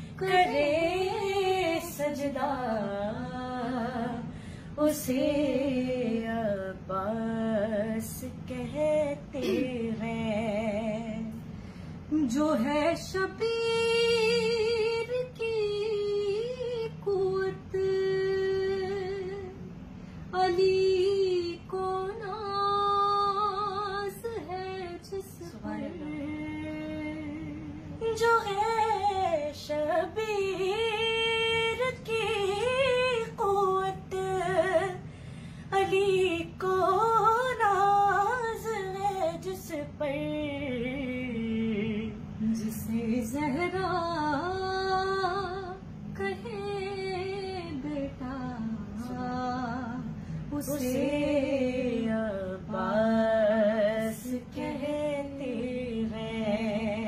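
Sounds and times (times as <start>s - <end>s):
women singing unaccompanied: 0.0s - 11.4s, 12.1s - 19.7s, 20.3s - 35.1s, 35.7s - 57.0s.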